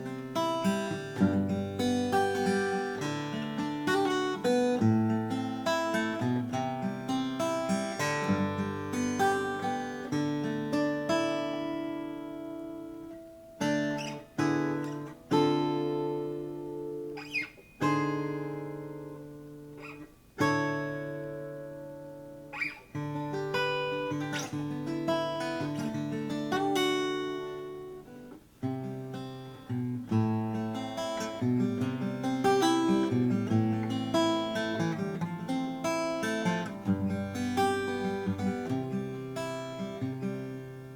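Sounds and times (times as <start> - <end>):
acoustic guitar playing: 0.0 - 40.9.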